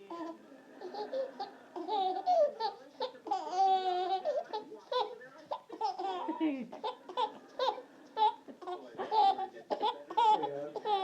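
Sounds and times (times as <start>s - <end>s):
baby laughing: 0.1s - 11.0s.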